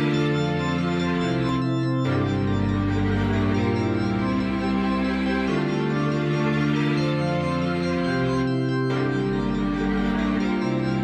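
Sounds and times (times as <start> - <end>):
held keyboard chords: 0.0 - 11.0.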